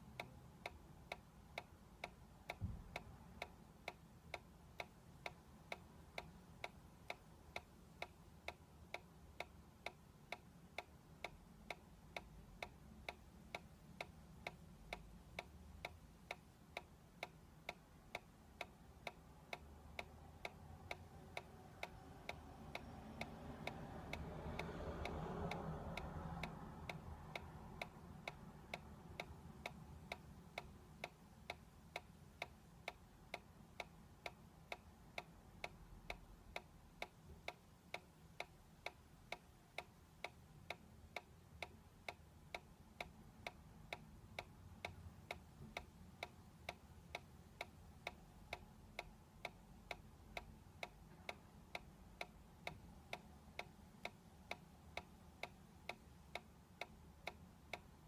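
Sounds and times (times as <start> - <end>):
toy mechanism ticking softly: 0.0 - 58.0.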